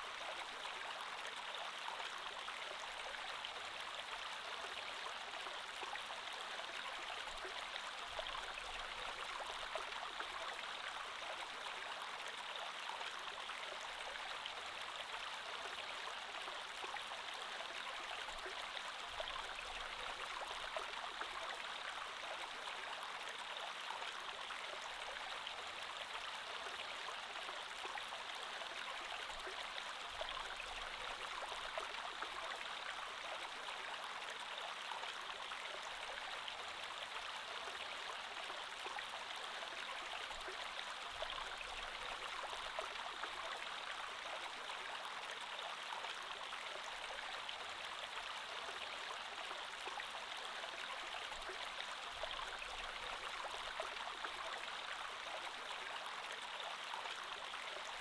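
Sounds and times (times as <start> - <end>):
creek flowing: 0.0 - 58.0.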